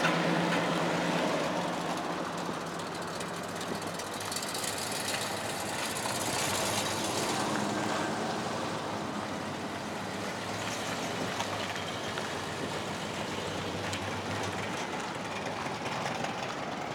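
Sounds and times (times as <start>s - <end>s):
car engines passing slowly: 0.0s - 16.9s
tyre and road noise: 0.0s - 16.9s.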